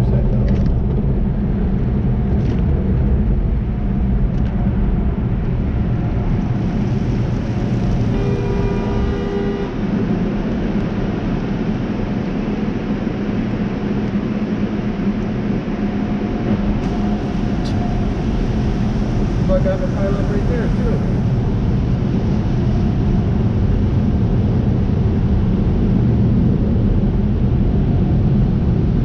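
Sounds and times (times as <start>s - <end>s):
car wash rumbling: 0.0s - 29.0s.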